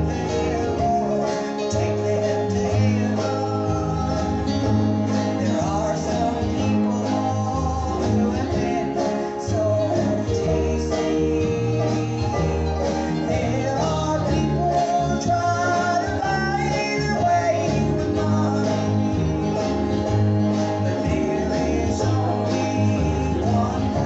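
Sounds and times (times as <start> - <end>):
bass notes: 0.0 - 24.0
guitars playing: 0.0 - 24.0
voices singing: 0.0 - 24.0.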